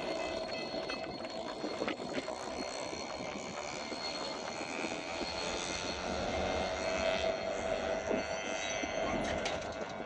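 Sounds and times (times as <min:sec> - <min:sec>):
freight train rolling on rails: 0:00.0 - 0:10.0.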